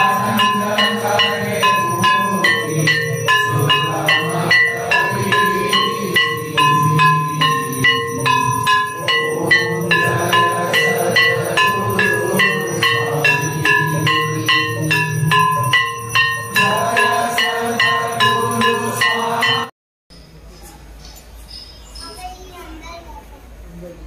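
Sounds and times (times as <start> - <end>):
temple bells ringing: 0.0 - 19.7.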